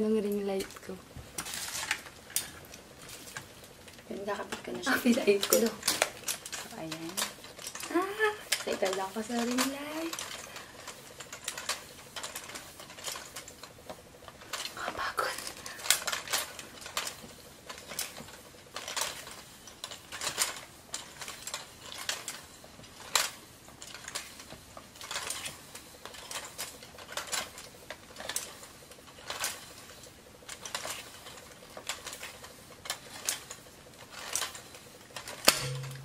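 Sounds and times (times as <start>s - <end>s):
ring light clicking and rattling: 0.0s - 36.0s.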